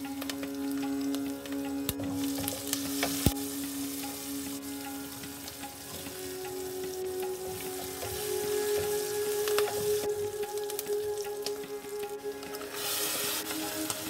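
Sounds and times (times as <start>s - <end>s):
seeds sizzling in hot oil: 0.0s - 14.0s.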